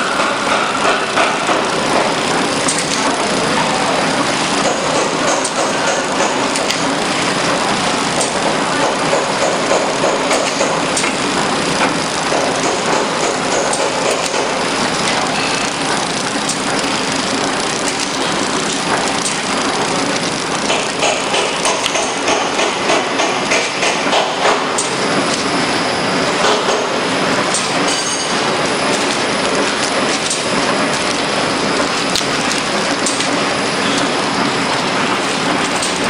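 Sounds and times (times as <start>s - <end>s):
packaging machine clatter: 0.0s - 36.0s.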